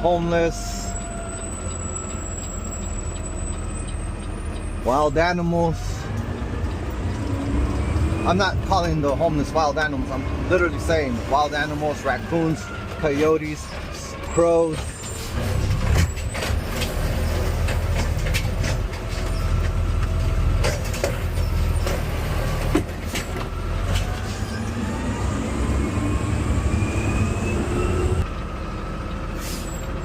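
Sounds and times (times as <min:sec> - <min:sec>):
garbage truck diesel engine: 0:00.0 - 0:30.0.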